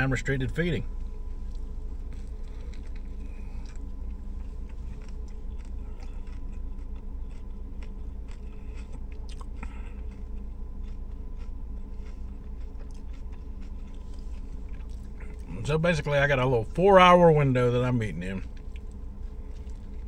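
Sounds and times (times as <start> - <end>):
steady low hum: 0.0 - 20.0
person chewing crunchy sandwich: 0.9 - 15.8, 18.3 - 20.0.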